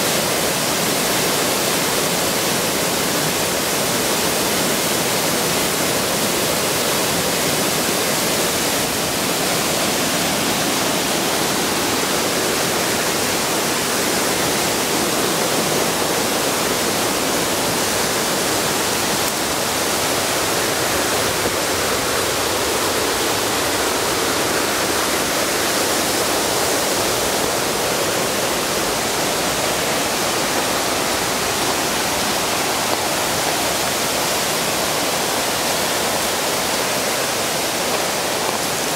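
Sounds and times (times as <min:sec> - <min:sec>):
mountain stream rushing water: 0:00.0 - 0:38.9.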